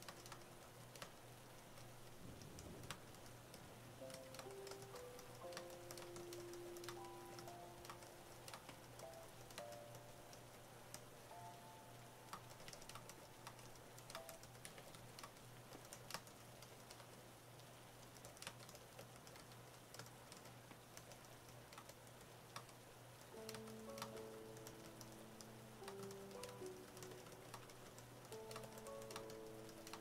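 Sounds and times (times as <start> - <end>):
keyboard typing clicks: 0.0 - 1.1, 1.8 - 17.2, 18.0 - 30.0.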